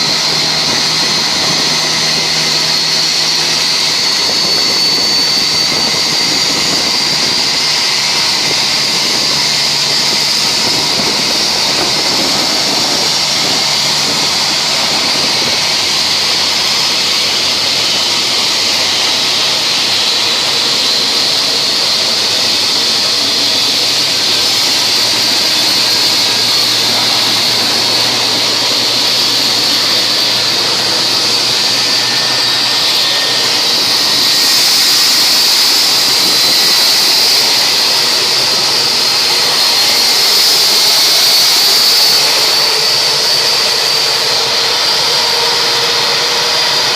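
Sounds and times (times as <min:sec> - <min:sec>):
jet engines idling with whine: 0:00.0 - 0:46.9.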